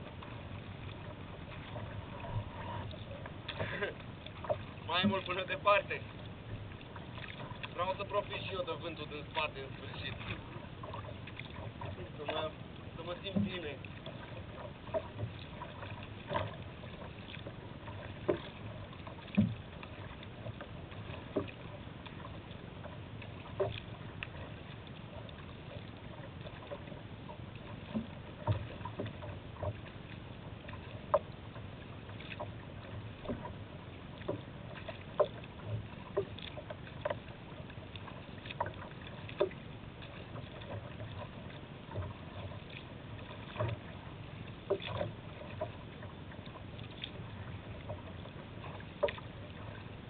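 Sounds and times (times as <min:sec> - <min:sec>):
kayak splashes and knocks: 0:00.0 - 0:50.0
rushing water: 0:00.0 - 0:50.0.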